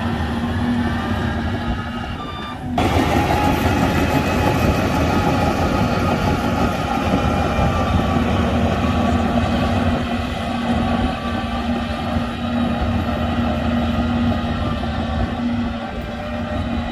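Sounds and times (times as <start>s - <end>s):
bulldozer diesel engine running: 0.0s - 16.9s.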